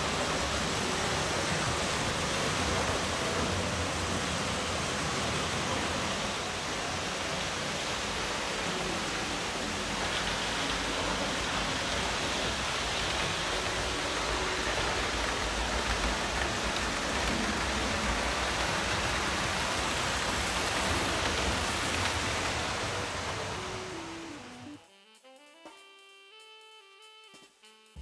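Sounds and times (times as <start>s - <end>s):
model train rushing rattle: 0.0s - 24.6s.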